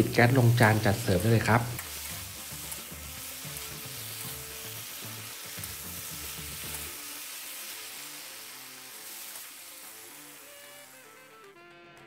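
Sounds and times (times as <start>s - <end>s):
fish and sauce sizzling in a wok: 0.0s - 11.5s.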